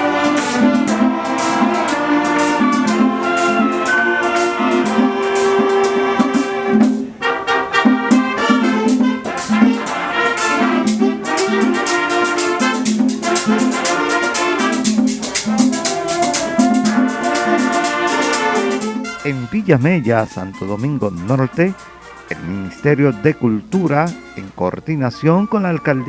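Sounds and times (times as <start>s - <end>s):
steady percussion beat: 0.0s - 7.1s, 7.9s - 25.5s
brass playing a tune: 0.0s - 26.0s.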